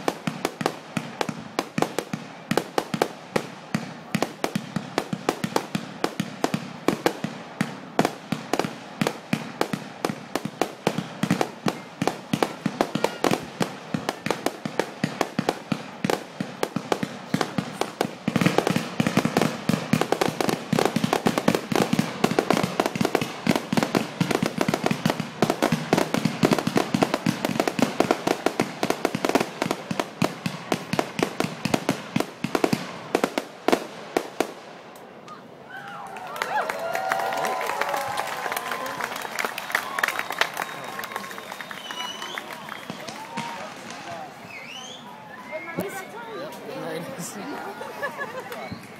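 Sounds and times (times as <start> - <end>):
fireworks crackling pops: 0.0 - 48.9.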